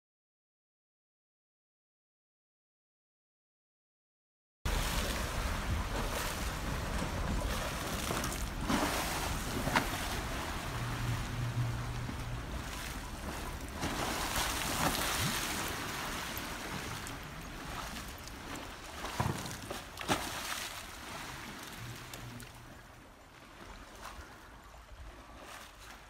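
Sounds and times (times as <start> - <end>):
pool water sloshing: 4.7 - 26.0.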